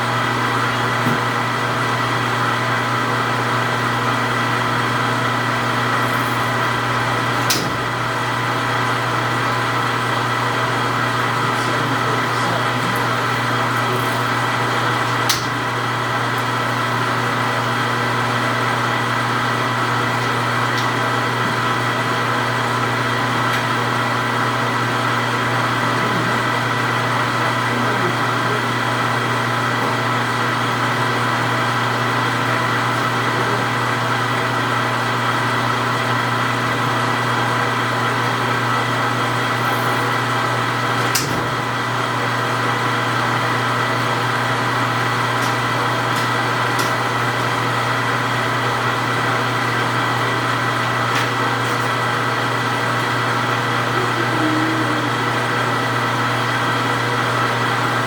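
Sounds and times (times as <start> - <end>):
electric machine hum: 0.0 - 58.0.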